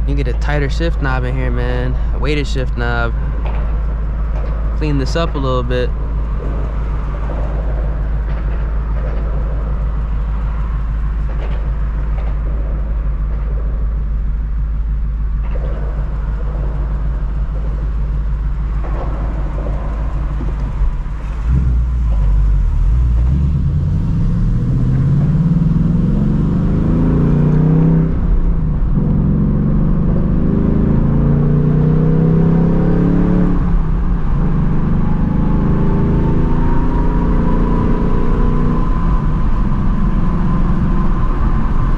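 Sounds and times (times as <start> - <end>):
car engine exhaust drone: 0.0 - 41.9.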